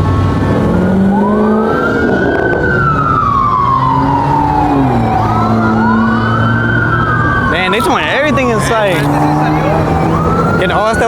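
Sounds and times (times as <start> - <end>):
police siren wailing: 0.0 - 11.0
vehicle engines running: 0.0 - 11.0.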